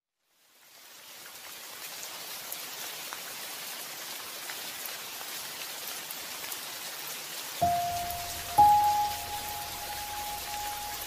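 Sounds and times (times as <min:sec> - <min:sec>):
rain falling: 0:00.2 - 0:11.0.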